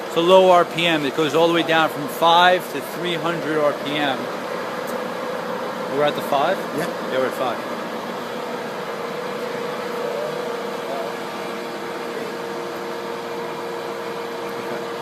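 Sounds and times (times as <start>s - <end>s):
lathe humming: 0.0s - 15.0s.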